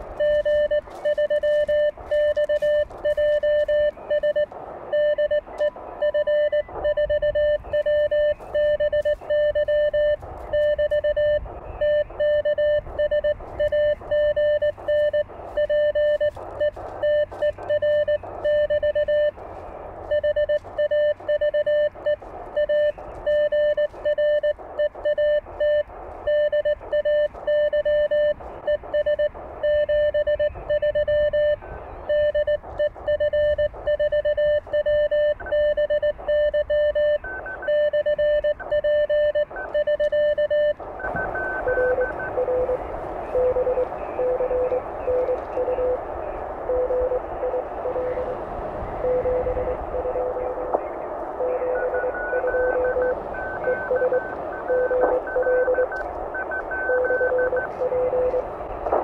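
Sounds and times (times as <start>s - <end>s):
morse code beeps: 0.0s - 59.0s.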